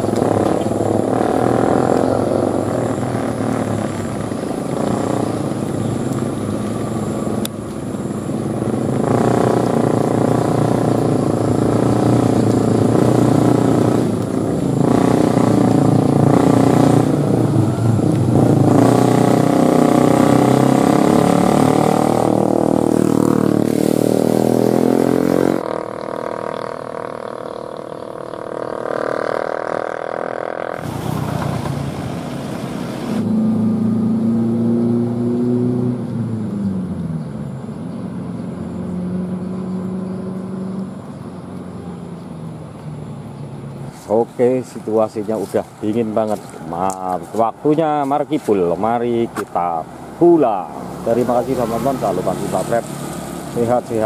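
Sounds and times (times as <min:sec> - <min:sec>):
motorcycle engine close by: 0:00.0 - 0:54.0
truck and car engines in low gear: 0:00.0 - 0:54.0.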